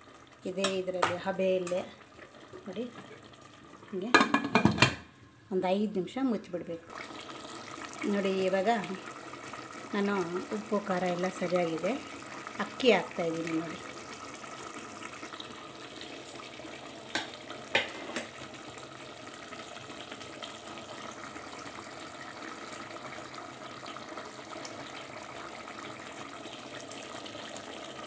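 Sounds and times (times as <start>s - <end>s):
gravy bubbling in pot: 0.0s - 5.1s, 6.8s - 28.0s.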